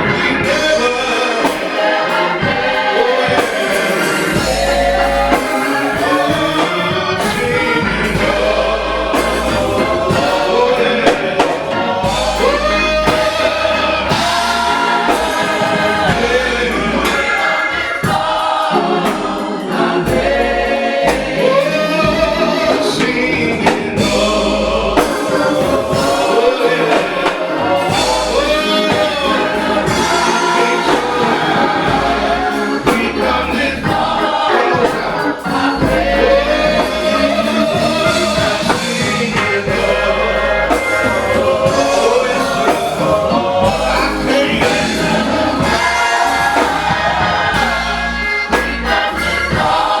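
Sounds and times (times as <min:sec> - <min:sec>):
backing music with bass: 0:00.0 - 0:50.0
gospel choir singing: 0:00.0 - 0:50.0.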